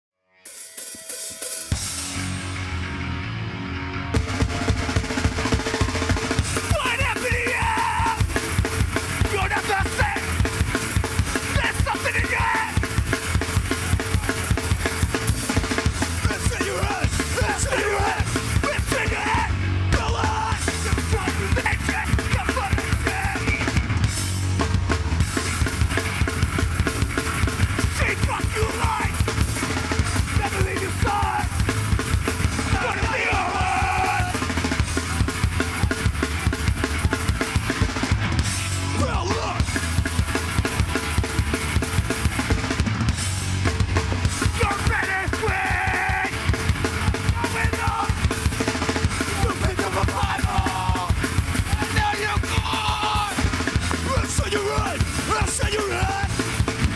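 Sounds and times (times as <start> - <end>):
live heavy rock band: 0.4 - 56.9
pounding bass drum and snare: 4.1 - 56.9.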